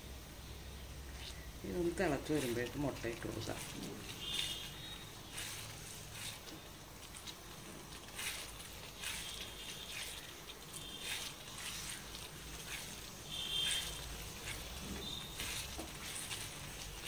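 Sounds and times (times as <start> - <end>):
spatula scraping in a pan: 1.2 - 17.0.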